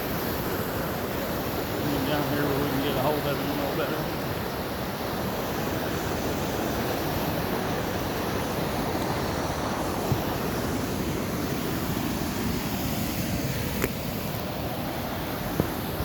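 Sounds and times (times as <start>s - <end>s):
river water pouring over dam: 0.0s - 16.0s
wind noise on microphone: 0.0s - 16.0s.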